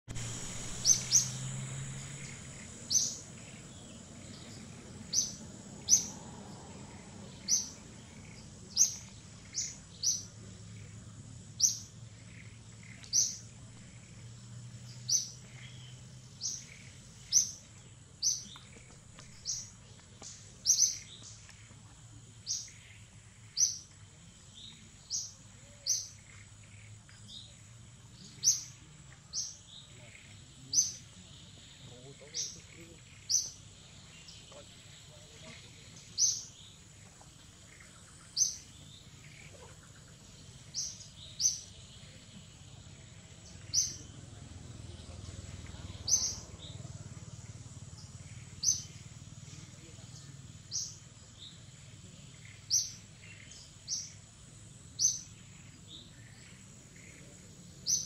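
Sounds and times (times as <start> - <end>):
bird chirping: 0.1 - 58.0.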